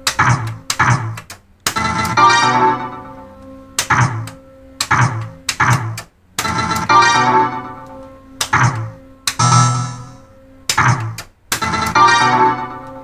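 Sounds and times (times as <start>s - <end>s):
bright electronic tones: 1.8s - 13.0s.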